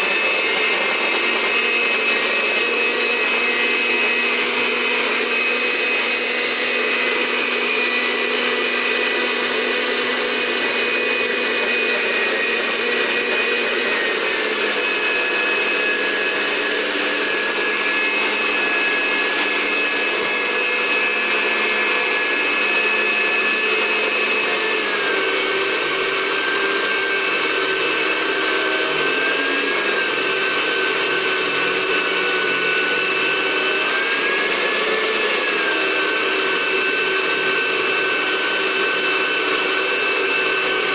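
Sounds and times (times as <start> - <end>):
electric blender motor whine: 0.0 - 40.9.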